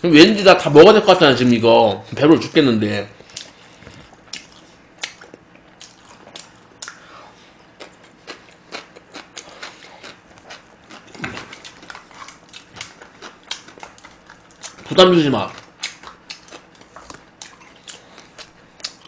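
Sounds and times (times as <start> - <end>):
man chewing food: 3.2 - 19.0.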